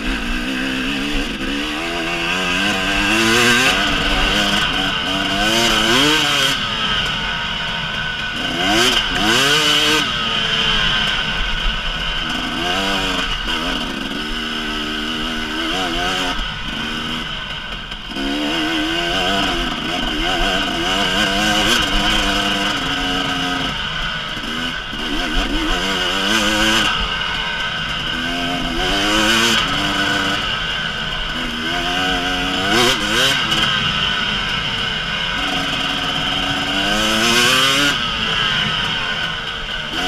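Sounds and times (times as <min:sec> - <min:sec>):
two-stroke motorcycle engine revving: 0:00.0 - 0:40.0
wind and chassis noise: 0:00.0 - 0:40.0.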